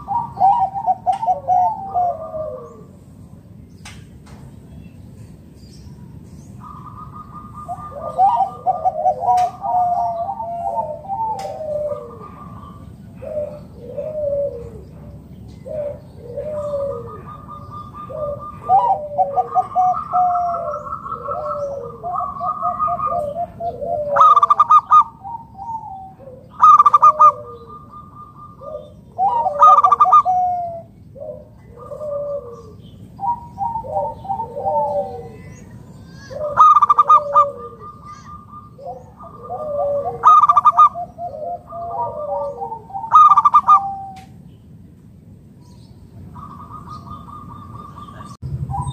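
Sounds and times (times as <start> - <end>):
dove cooing: 0.0 - 3.4, 6.6 - 44.4, 46.2 - 48.9.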